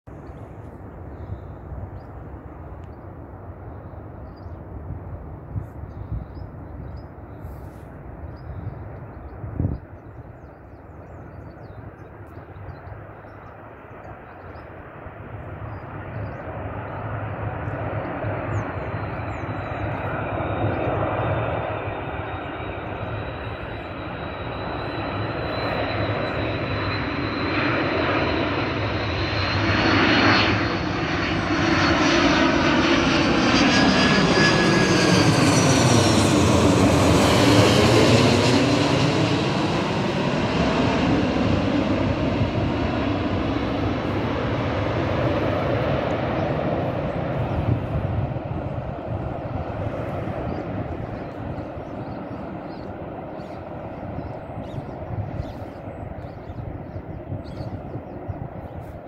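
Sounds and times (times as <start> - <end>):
jet airliner passing overhead: 0.1 - 59.0.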